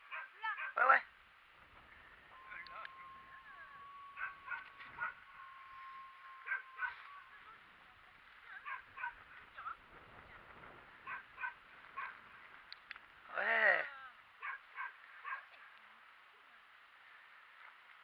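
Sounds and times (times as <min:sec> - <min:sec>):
thin steady whine: 0:01.0 - 0:18.0.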